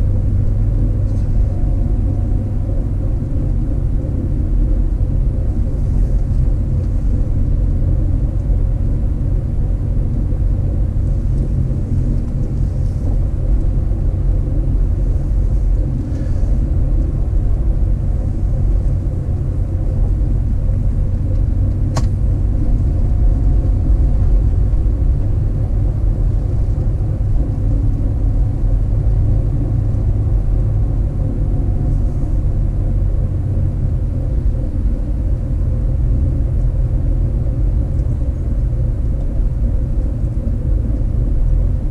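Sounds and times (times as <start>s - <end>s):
car driving rumble: 0.0s - 41.9s.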